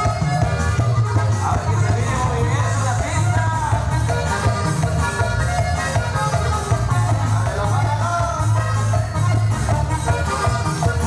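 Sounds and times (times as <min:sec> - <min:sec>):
latin dance music with heavy bass: 0:00.0 - 0:11.0.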